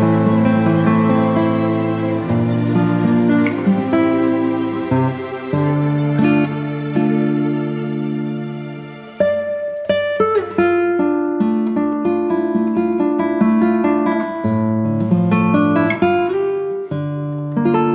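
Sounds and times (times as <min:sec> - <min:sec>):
plucked string instrument: 0:00.0 - 0:17.9.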